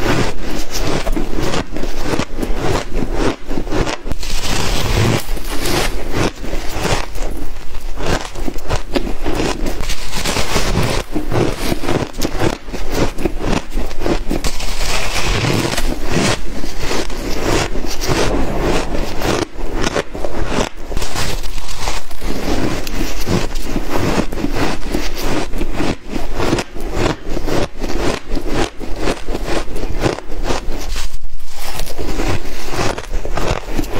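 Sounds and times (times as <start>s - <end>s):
ice crunching while chewed: 0.0s - 33.9s.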